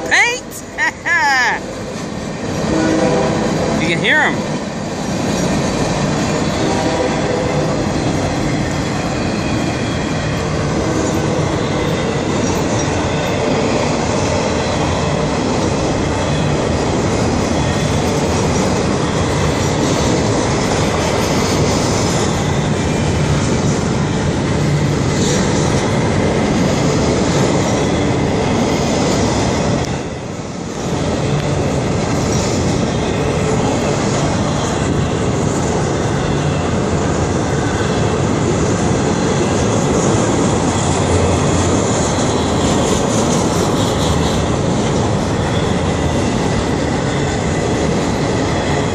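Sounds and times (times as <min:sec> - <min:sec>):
freight train passing: 0:00.0 - 0:48.9.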